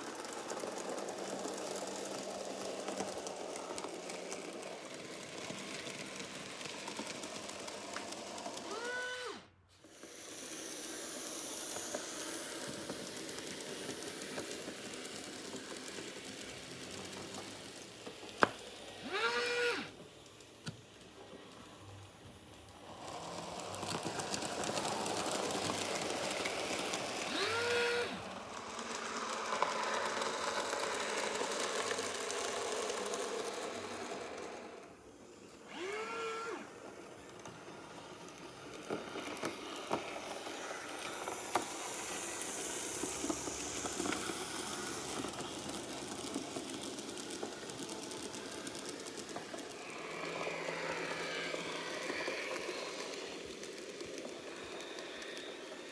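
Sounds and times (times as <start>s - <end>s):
model trains rattling on track: 0.0s - 9.0s, 9.8s - 19.0s, 19.8s - 35.7s, 36.6s - 55.9s.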